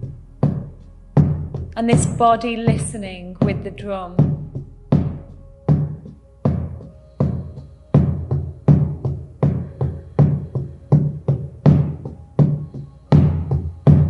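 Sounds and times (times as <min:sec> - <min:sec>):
frame drum beaten: 0:00.0 - 0:14.0.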